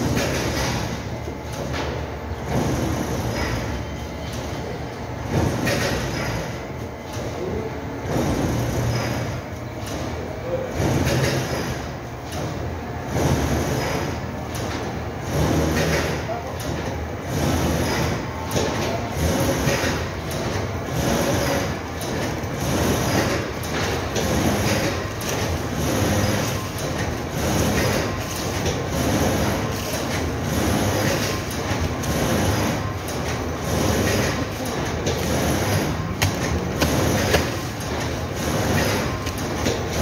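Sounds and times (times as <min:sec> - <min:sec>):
factory machinery running: 0:00.0 - 0:40.0.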